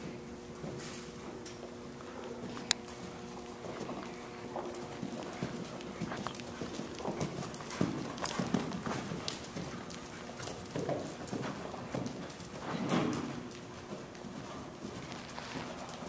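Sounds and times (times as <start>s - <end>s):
horse hoofbeats on sand: 0.0s - 16.0s.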